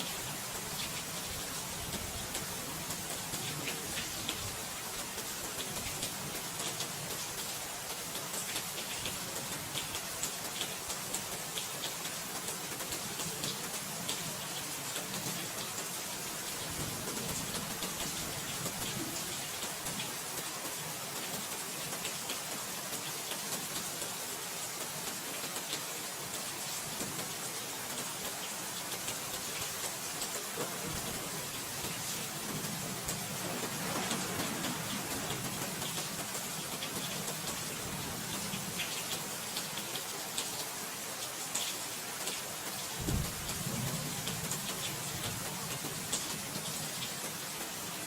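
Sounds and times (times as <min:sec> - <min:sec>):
raindrops ticking on a surface: 0:00.0 - 0:48.0
steady rain falling: 0:00.0 - 0:48.0.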